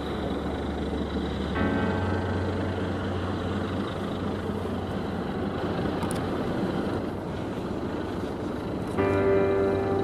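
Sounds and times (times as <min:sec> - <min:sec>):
low hum: 0:00.0 - 0:10.0
ship engines rumbling: 0:00.0 - 0:10.0.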